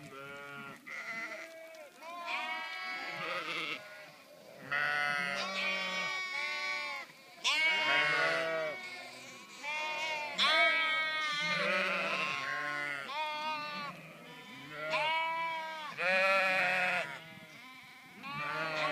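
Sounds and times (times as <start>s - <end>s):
sheep bleating: 0.1s - 18.9s.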